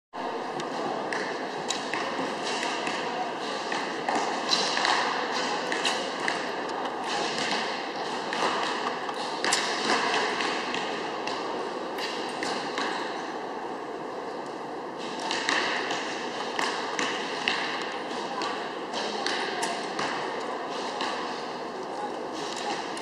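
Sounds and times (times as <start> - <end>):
murmur of voices: 0.2 - 23.0.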